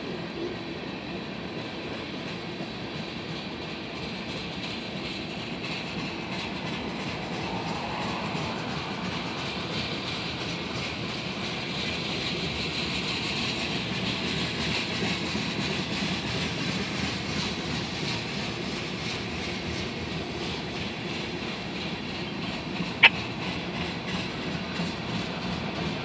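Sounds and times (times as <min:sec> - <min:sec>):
wheels rumbling and rattling on rail: 0:00.0 - 0:26.0.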